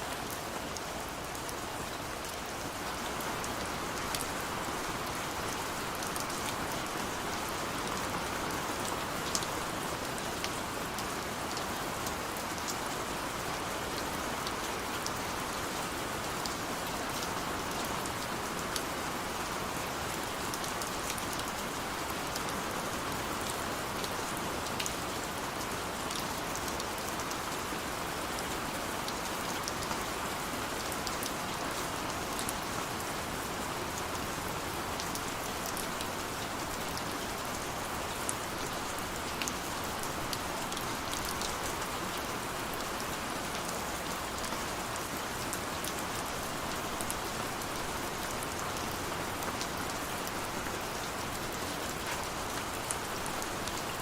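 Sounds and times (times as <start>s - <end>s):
gentle rain hissing: 0.0s - 54.0s.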